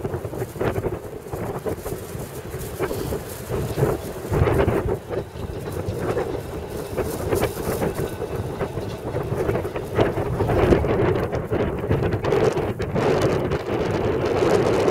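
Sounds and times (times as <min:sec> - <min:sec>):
electric tram rumbling past: 0:00.0 - 0:14.9
wind buffeting microphone: 0:00.0 - 0:14.9.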